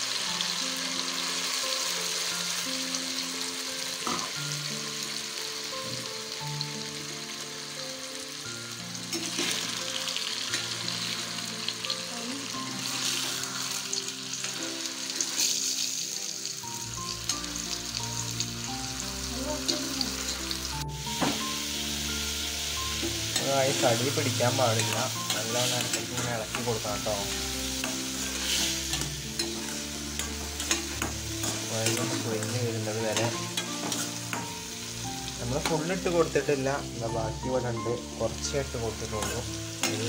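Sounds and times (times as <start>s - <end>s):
food sizzling in oil: 0.0s - 40.0s.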